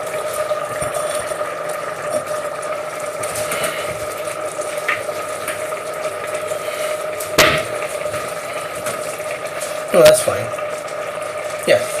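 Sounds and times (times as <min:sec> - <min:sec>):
steady kitchen hum: 0:00.0 - 0:12.0.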